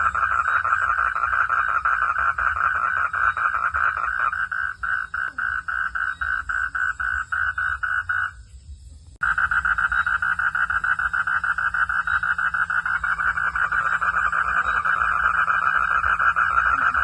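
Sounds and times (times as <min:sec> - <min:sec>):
frog calling in pulses: 0:00.0 - 0:08.4, 0:09.2 - 0:17.0.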